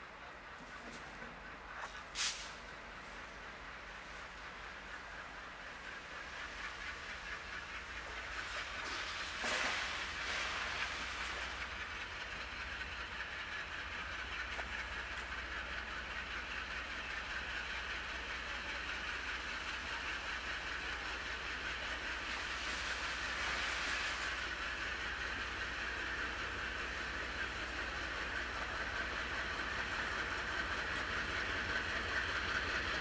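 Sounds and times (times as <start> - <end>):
diesel locomotive engine running: 0.0 - 33.0
wheels clattering on rail joints: 0.5 - 33.0.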